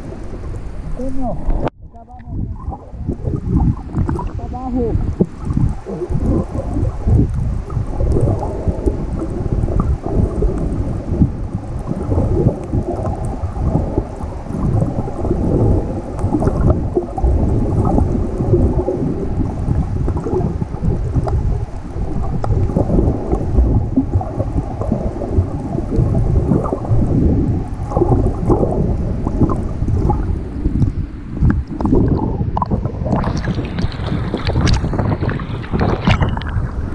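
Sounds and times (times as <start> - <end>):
muffled underwater sea sloshing: 0.0 - 36.9
water splashing: 0.0 - 36.9
wind noise: 0.0 - 36.9.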